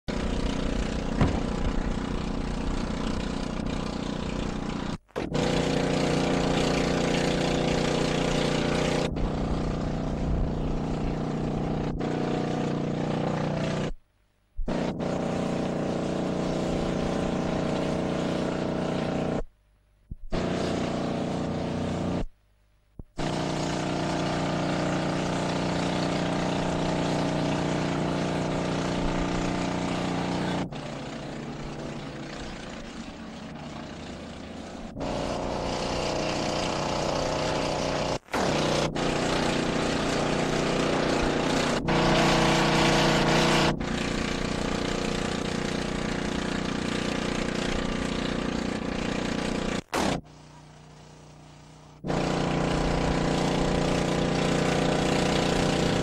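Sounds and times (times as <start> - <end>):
engine running steadily: 0.1 - 22.4, 23.0 - 56.0.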